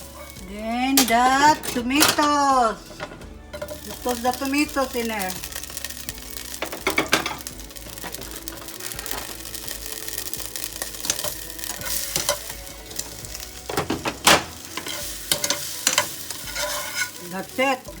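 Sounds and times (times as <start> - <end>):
utensil scraping a pan: 0.0 - 18.0
vegetables sizzling in oil: 0.0 - 18.0.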